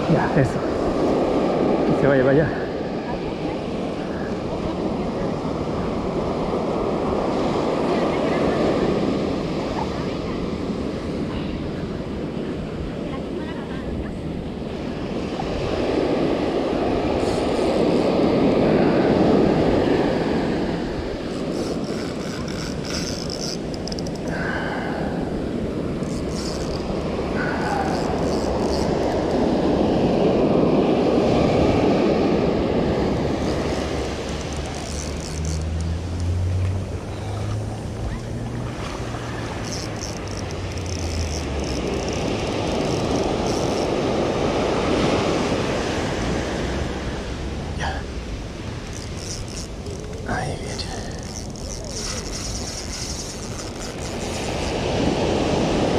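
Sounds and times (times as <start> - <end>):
ocean surf breaking: 0.0 - 55.9.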